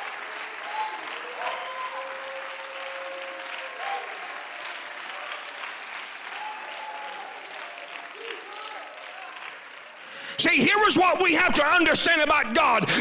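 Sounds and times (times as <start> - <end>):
congregation clapping: 0.0 - 13.0.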